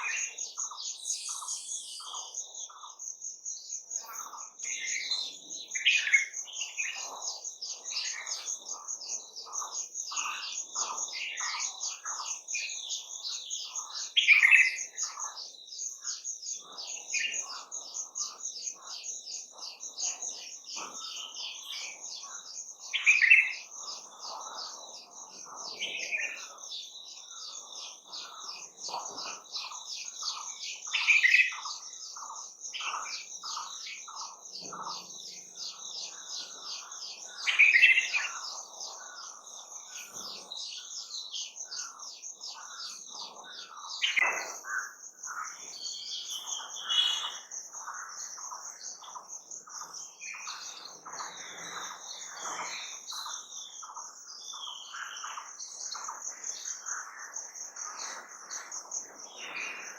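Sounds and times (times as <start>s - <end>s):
loud bird song phrase: 0.0s - 59.9s.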